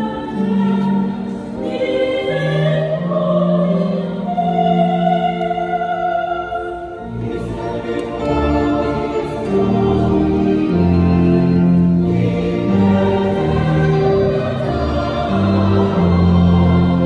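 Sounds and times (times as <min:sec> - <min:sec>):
electronic organ: 0:00.0 - 0:17.0
mixed choir singing chords: 0:00.0 - 0:17.0.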